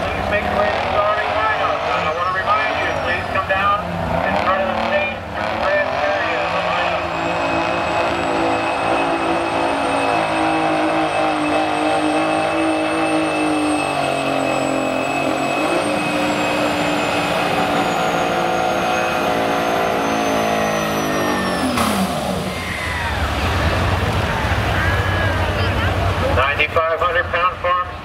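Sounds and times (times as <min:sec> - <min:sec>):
diesel truck engine under load: 0:00.0 - 0:28.0.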